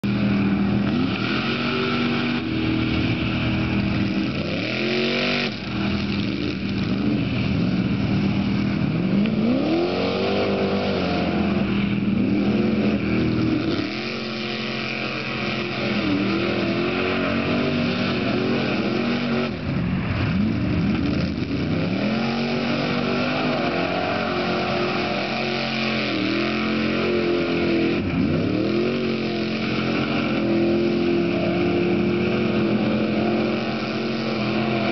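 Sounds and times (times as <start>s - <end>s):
off-road vehicle engine revving: 0.0s - 34.9s
steady engine drone: 0.0s - 34.9s.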